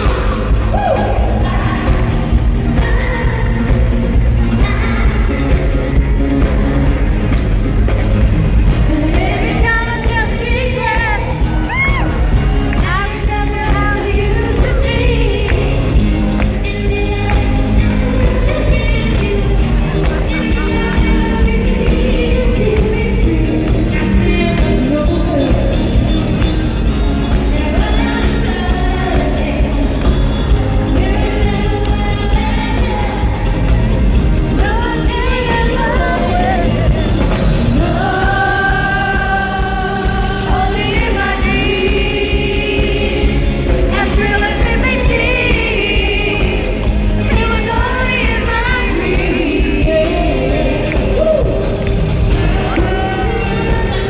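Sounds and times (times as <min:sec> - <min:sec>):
woman singing: 0:00.0 - 0:07.6, 0:08.5 - 0:54.0
full band playing pop: 0:00.0 - 0:54.0.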